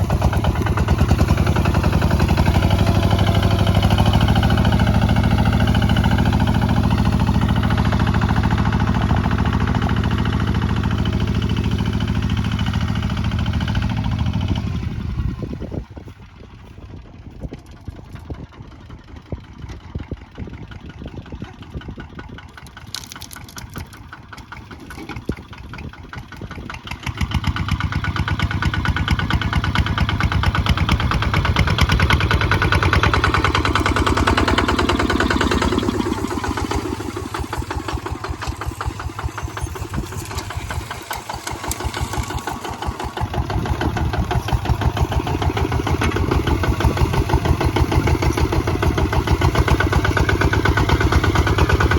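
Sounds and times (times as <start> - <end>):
diesel engine knocking: 0.0 - 51.9.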